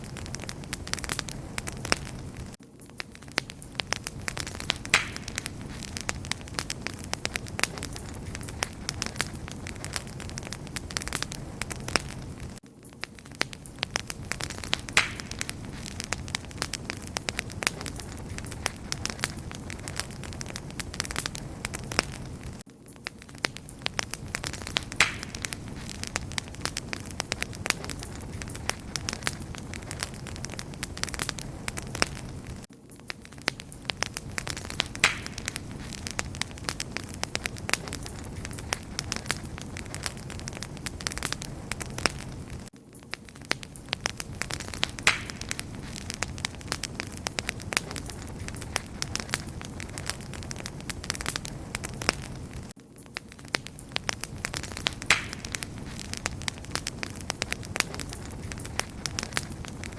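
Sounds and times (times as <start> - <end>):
wood campfire crackling: 0.0 - 59.9.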